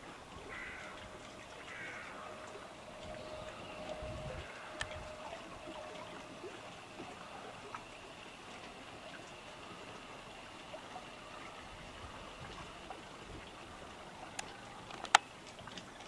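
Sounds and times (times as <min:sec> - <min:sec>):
small waves lapping: 0:00.0 - 0:16.0.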